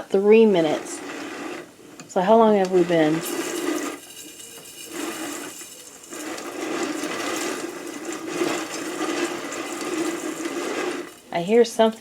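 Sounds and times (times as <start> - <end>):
popcorn popper crank whirring: 0.0 - 12.0.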